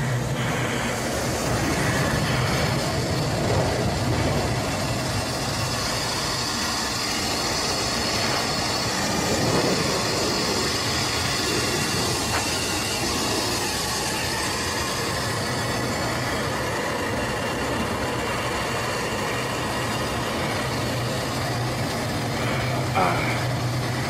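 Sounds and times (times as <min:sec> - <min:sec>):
jet engine rumble: 0:00.0 - 0:24.0
rushing air hiss: 0:00.0 - 0:24.0.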